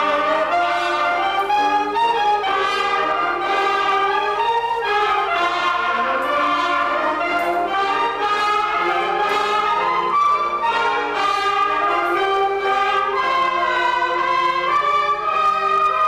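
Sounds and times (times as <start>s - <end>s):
brass wind band playing: 0.0s - 16.0s.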